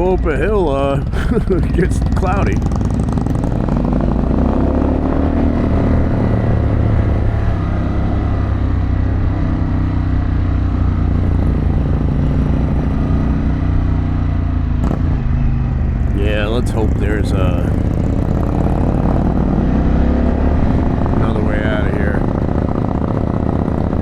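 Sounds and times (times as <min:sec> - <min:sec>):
motorcycle engine running uphill: 0:00.0 - 0:24.0.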